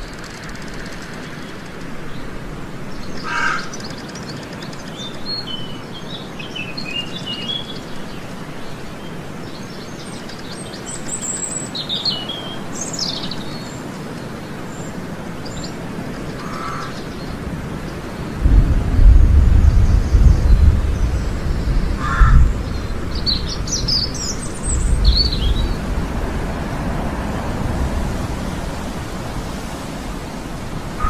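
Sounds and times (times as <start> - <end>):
steady background noise: 0.0 - 31.0
wild birds chirping: 0.0 - 31.0.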